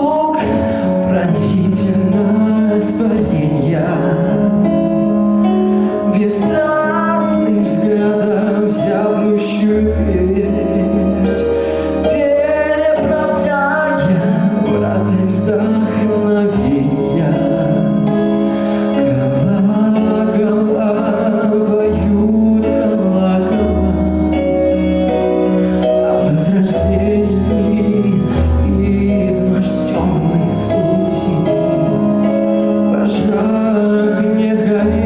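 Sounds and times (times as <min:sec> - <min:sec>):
instrumental accompaniment: 0:00.0 - 0:35.0
long held bass notes: 0:00.0 - 0:35.0.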